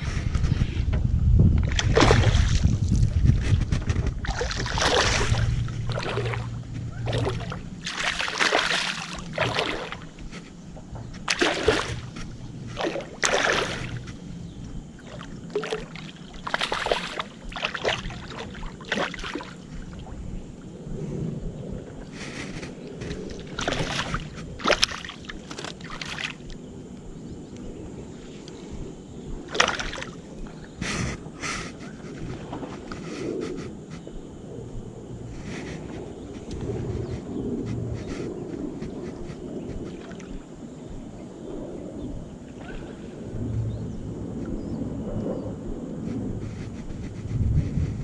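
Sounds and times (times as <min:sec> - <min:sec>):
wind rumbling on microphone: 0:00.0 - 0:48.0
water sloshing and splashing: 0:01.5 - 0:21.0, 0:21.6 - 0:47.2.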